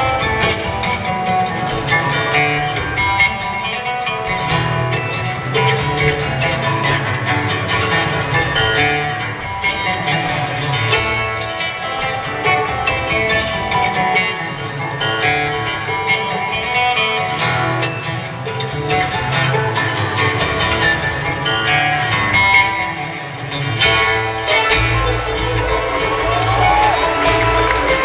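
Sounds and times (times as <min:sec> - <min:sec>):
acoustic string band playing: 0:00.0 - 0:28.0.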